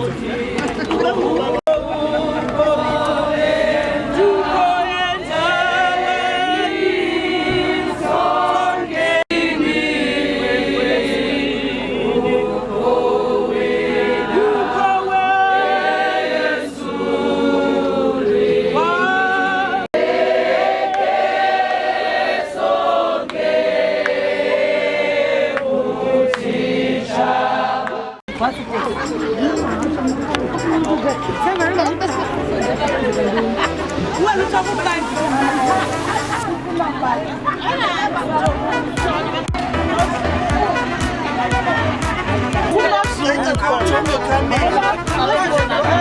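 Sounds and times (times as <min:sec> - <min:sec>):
choir singing: 0:00.0 - 0:46.0.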